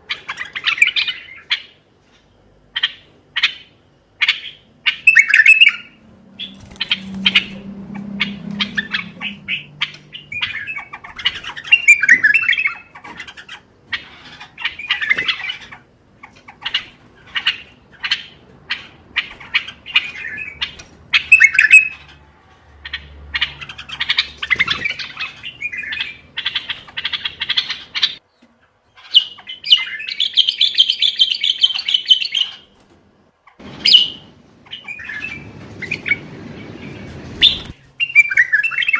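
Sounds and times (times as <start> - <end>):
bird chirping: 0.0 - 32.8, 33.5 - 38.9.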